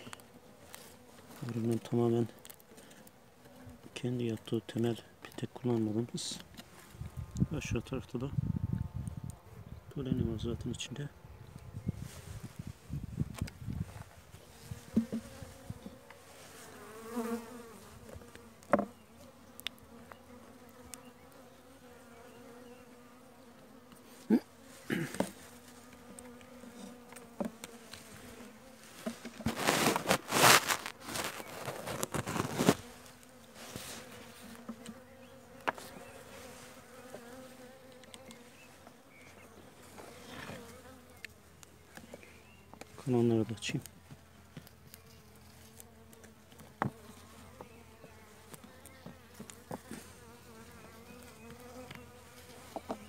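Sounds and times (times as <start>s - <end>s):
honeybees buzzing: 0.0s - 53.0s.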